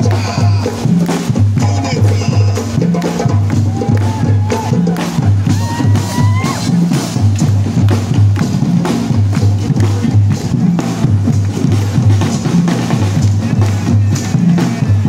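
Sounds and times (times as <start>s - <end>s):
bass drum beating: 0.0s - 15.0s
drums: 0.0s - 15.0s.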